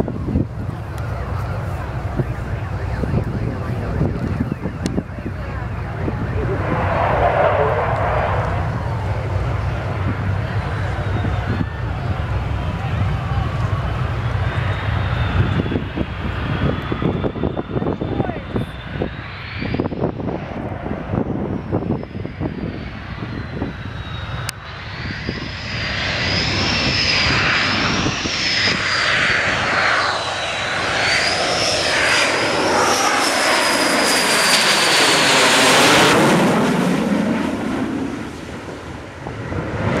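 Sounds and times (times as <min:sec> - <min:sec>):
jet engines roaring and whining: 0:00.0 - 0:40.0.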